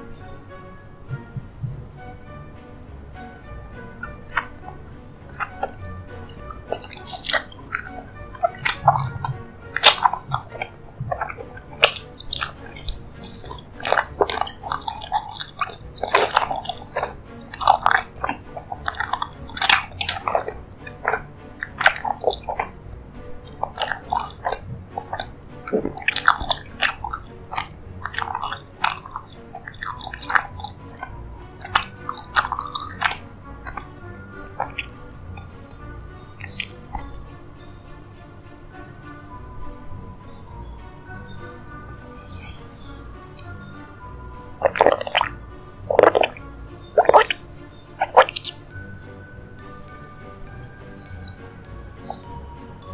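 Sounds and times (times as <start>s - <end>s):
quiet background music: 0.0s - 52.9s
wet chewing mouth sounds: 3.2s - 37.4s, 40.5s - 52.9s.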